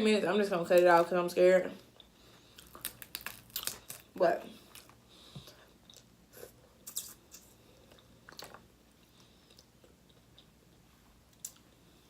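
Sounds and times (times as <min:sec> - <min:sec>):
person chewing crunchy food: 0:01.9 - 0:11.8.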